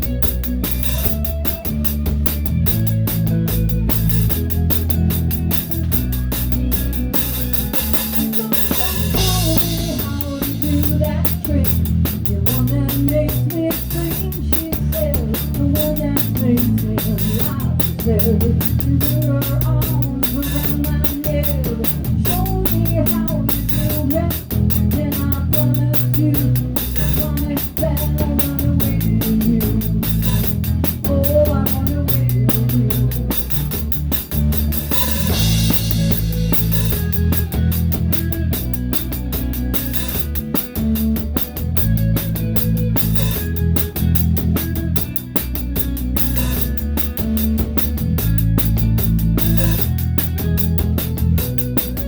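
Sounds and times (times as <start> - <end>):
bass guitar: 0.0 - 52.0
drum kit with damped snare: 0.0 - 52.0
electric guitar: 0.0 - 52.0.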